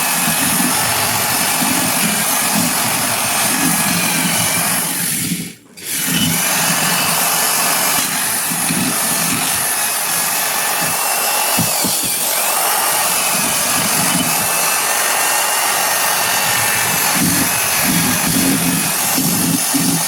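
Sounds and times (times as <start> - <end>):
power tool high-pitched whirr: 0.0 - 20.0.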